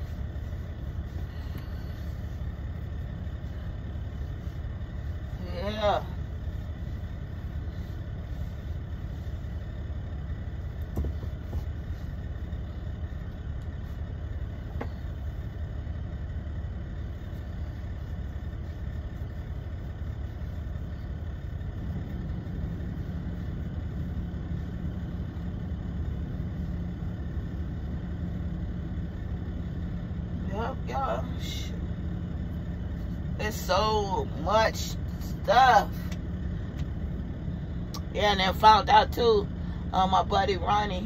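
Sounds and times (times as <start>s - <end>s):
semi truck engine idling: 0.0s - 41.0s
steady hum: 0.0s - 41.0s.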